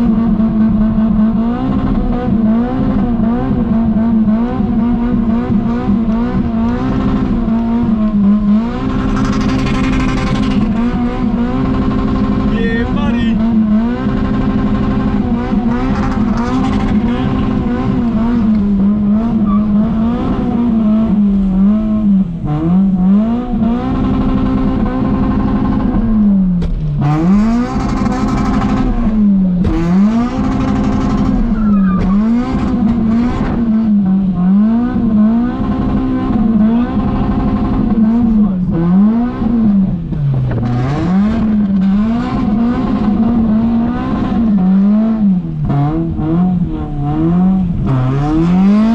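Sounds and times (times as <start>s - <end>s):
car engine revving hard: 0.0s - 48.9s.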